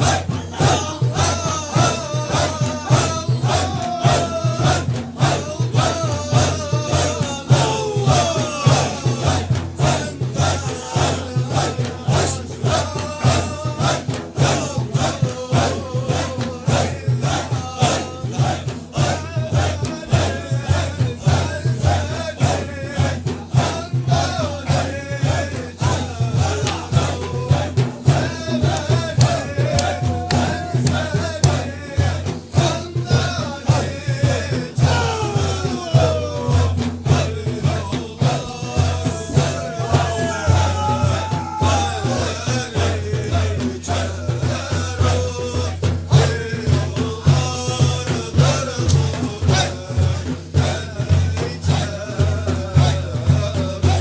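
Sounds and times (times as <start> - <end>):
group of voices chanting: 0.0 - 54.0
steady drum beat: 0.0 - 54.0.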